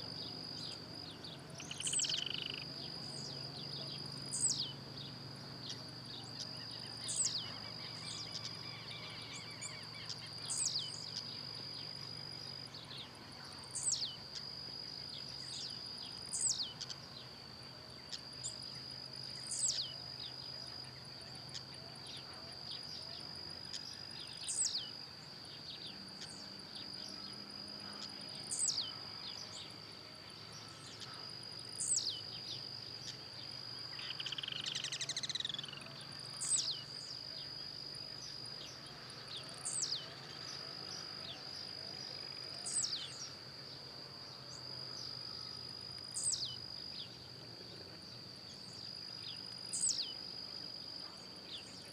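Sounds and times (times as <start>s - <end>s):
high-pitched insect drone: 1.6s - 17.4s, 18.1s - 51.9s.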